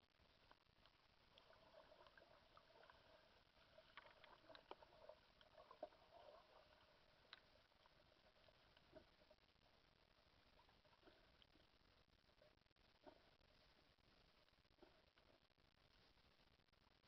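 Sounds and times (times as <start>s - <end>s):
faint underwater clicks and crackles: 0.0s - 17.0s.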